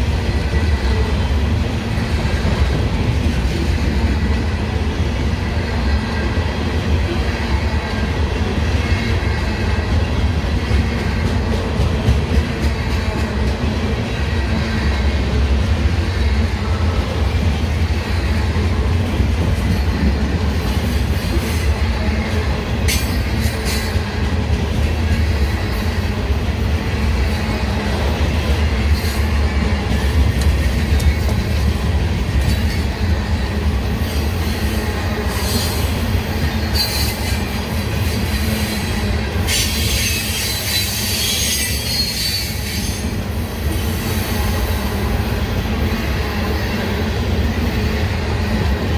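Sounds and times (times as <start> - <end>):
train rumbling past: 0.0 - 48.9
train wheels squealing on rails: 0.0 - 48.9.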